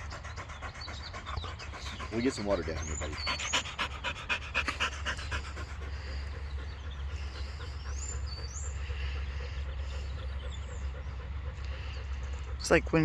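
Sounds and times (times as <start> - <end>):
birds chirping: 0.0 - 13.0
dog panting fast: 0.0 - 13.0.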